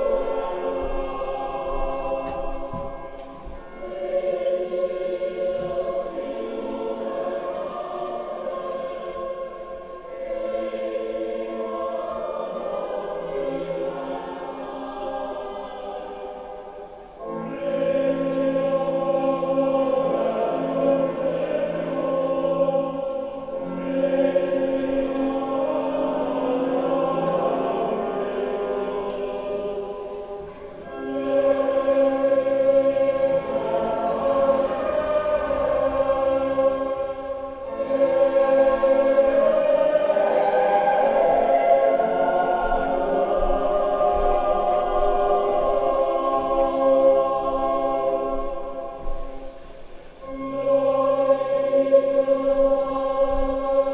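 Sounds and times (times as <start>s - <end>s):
choir singing a chant: 0.0s - 53.9s.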